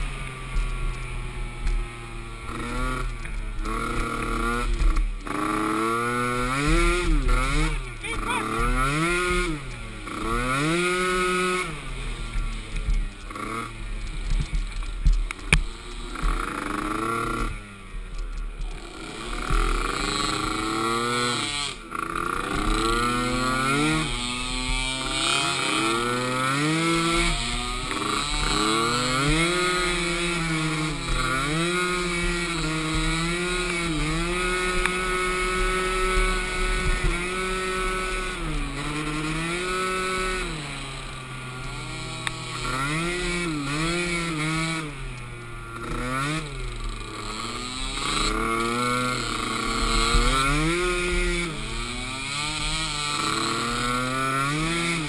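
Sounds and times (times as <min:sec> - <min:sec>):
small atv engine racing: 0:00.0 - 0:55.0.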